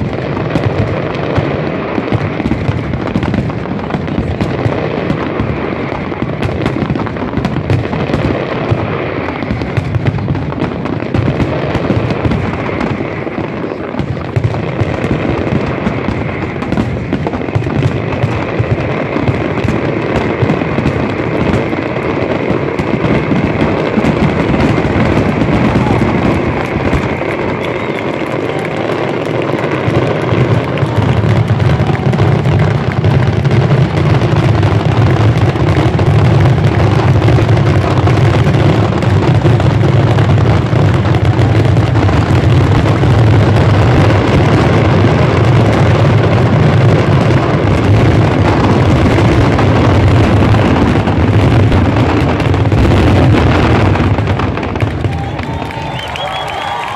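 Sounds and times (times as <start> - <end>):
fireworks barrage rumble: 0.0 - 56.9.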